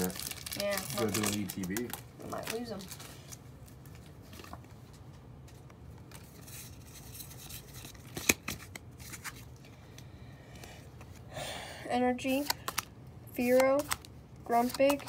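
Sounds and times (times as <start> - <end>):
cards rustling: 0.0 - 11.3, 12.2 - 15.0.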